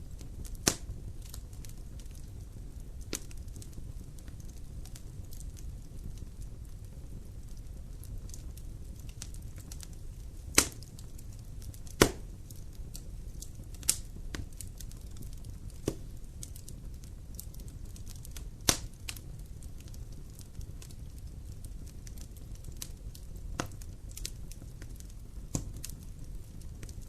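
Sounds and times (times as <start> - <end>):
fire crackling in a fireplace: 0.0 - 27.0
sharp pops of burning wood: 0.1 - 27.0.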